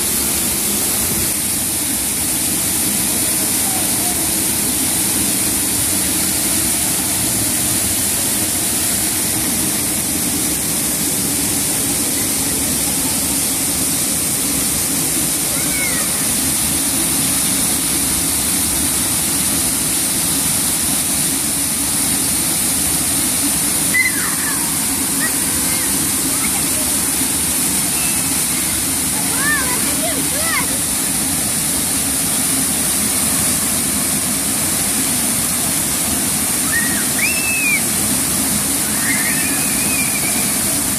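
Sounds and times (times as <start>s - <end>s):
fountain water splashing on paving: 0.0s - 40.9s.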